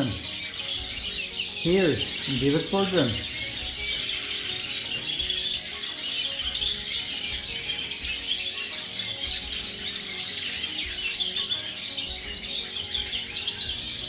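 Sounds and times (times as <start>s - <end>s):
faint background music: 0.0s - 14.0s
finches chirping and twittering: 0.0s - 14.0s.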